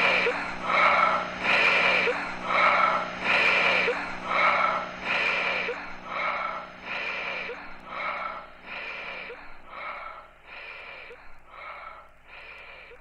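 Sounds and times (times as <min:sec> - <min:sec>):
heavy rasping breaths: 0:00.0 - 0:13.0.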